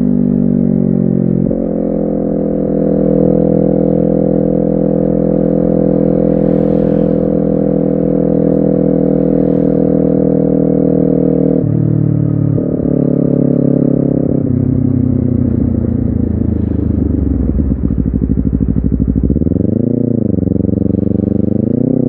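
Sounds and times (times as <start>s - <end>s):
motorcycle engine running: 0.0s - 22.0s
engine throttle blips: 1.5s - 13.2s, 14.0s - 22.0s.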